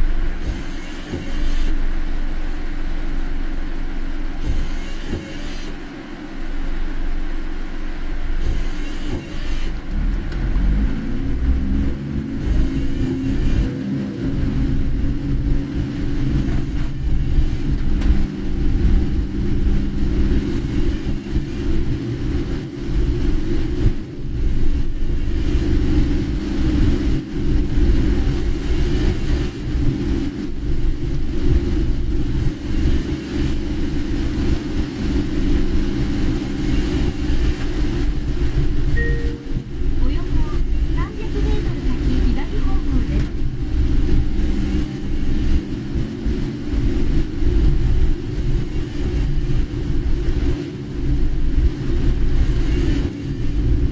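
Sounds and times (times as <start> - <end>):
car engine and tyres rumbling: 0.0 - 53.9
rain on car: 0.0 - 53.9.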